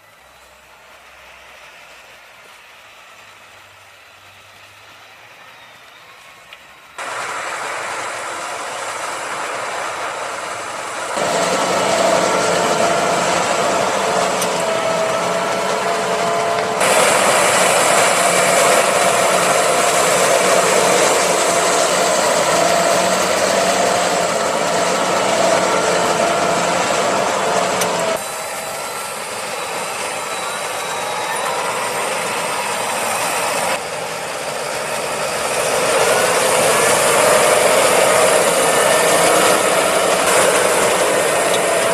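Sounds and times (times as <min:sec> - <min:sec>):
tractor engine hum: 0:00.1 - 0:41.9.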